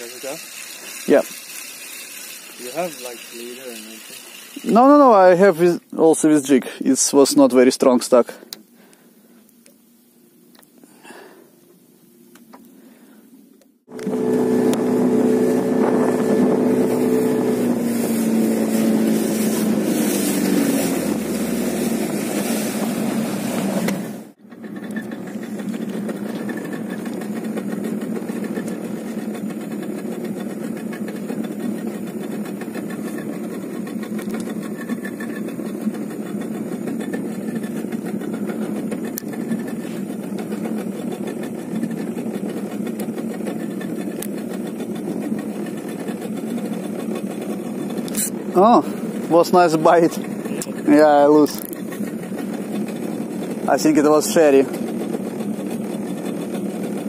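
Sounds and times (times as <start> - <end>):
boat engine running: 0.0 - 7.7, 13.8 - 57.0.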